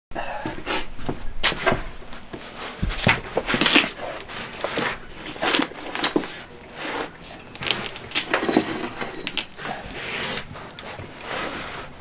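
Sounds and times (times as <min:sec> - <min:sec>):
rustling: 0:01.1 - 0:12.0.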